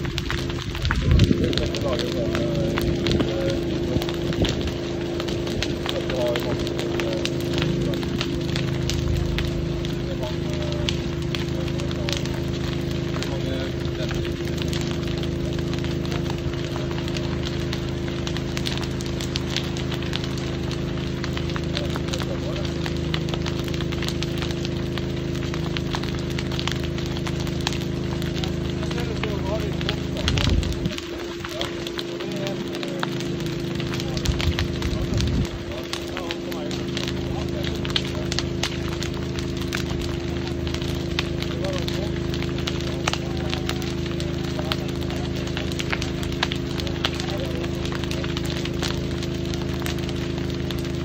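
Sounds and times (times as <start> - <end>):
engine humming: 0.0 - 51.0
fire crackling and popping: 0.0 - 51.0.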